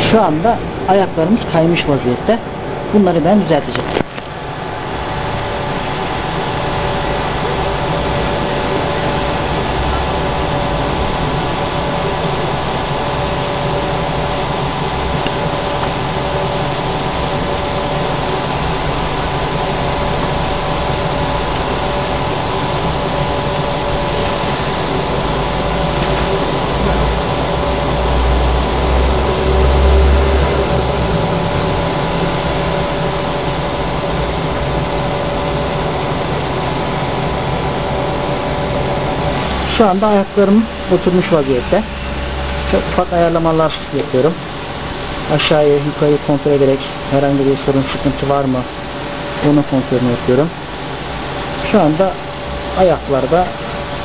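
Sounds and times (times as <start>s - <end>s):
cooling fans whirring hum: 0.0s - 54.0s.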